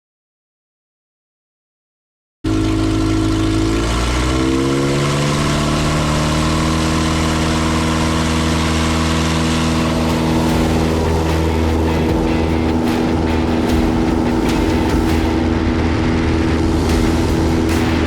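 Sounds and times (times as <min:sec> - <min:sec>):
light aircraft engine and propeller: 0:02.5 - 0:18.0.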